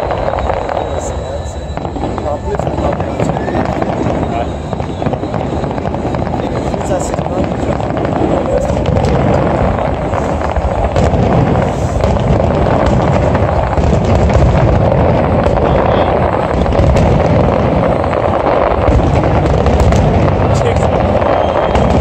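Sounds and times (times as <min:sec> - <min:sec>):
fireworks crackling and popping: 0:00.0 - 0:22.0
low rumble: 0:00.0 - 0:22.0.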